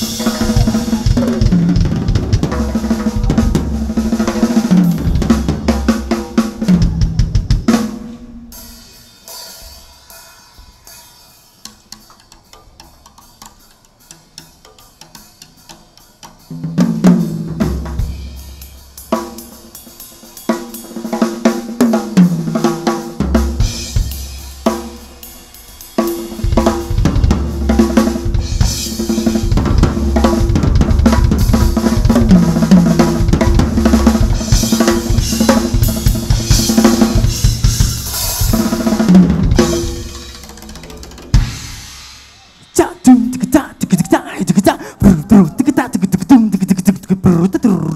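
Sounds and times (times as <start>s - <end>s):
drum kit playing: 0.0s - 47.9s.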